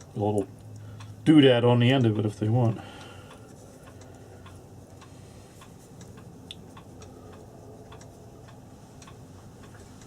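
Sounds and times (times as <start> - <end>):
clocks ticking: 0.0 - 10.0.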